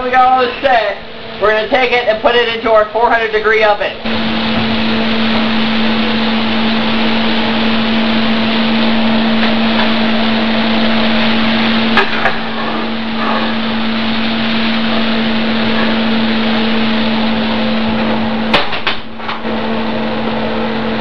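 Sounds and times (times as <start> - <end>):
fan whirring: 0.0 - 21.0.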